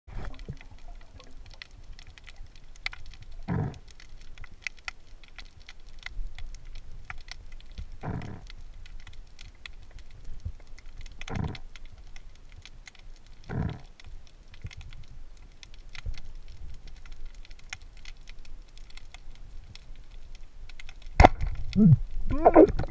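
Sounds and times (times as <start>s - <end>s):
underwater crackle of clicks: 0.1s - 22.9s.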